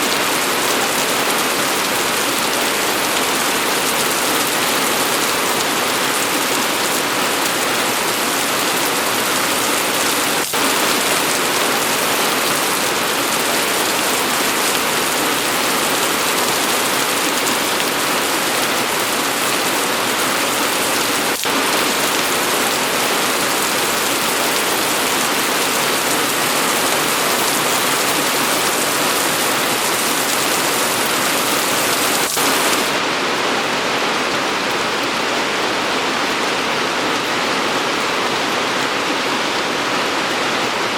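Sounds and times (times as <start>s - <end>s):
dense rain hissing: 0.0s - 40.4s.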